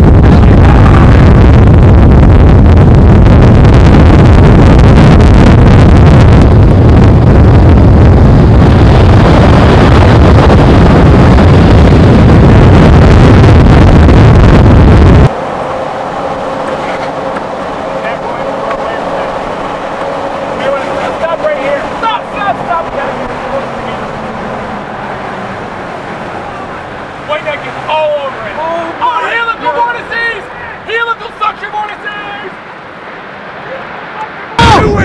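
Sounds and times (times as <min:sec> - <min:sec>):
rough wind buffeting microphone: 0:00.0 - 0:30.9, 0:32.6 - 0:35.0
vehicle driving hum: 0:00.0 - 0:35.0.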